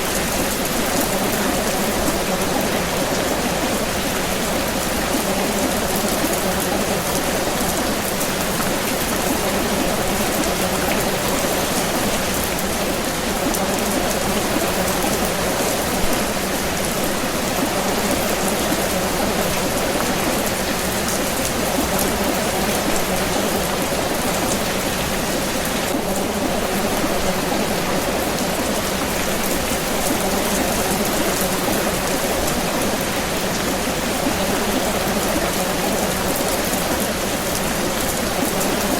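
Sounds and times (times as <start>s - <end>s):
rain hissing on a surface: 0.0s - 38.9s.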